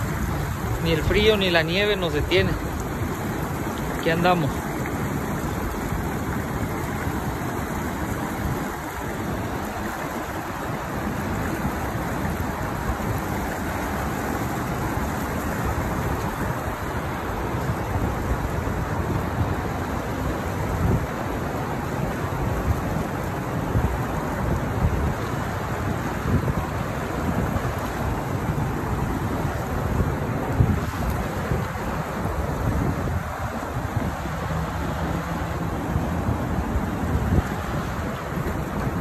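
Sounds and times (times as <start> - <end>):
river current rushing: 0.0 - 39.0
wind buffeting microphone: 0.0 - 39.0.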